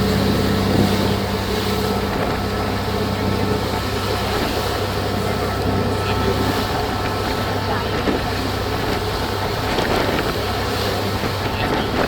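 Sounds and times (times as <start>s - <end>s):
rushing water: 0.0s - 12.0s
ship engines humming: 0.0s - 12.0s
wind: 0.0s - 12.0s.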